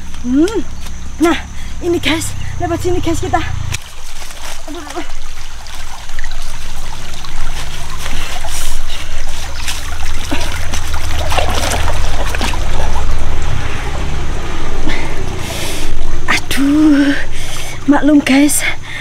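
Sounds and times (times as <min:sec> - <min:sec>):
steady low rumble: 0:00.0 - 0:19.0
stream trickling: 0:00.0 - 0:19.0.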